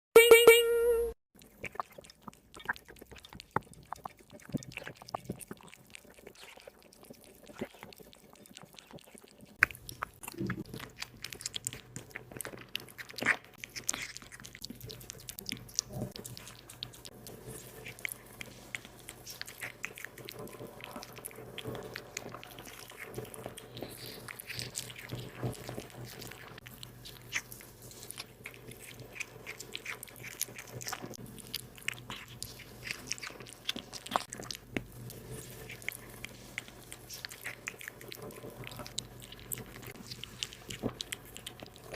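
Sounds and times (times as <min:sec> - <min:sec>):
cat chewing food: 0:01.4 - 0:41.9.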